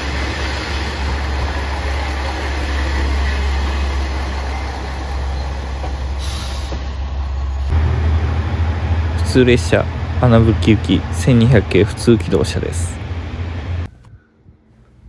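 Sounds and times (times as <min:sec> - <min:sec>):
wheels rushing on rail: 0:00.0 - 0:14.0
diesel railcar engine drone: 0:00.0 - 0:15.0.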